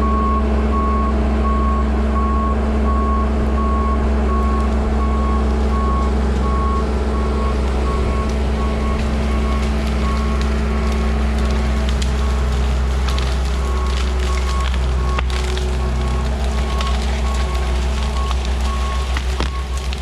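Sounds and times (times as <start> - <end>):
reversing alarm beeping: 0.0 - 11.0, 13.0 - 20.0
skid steer engine running: 0.0 - 20.0.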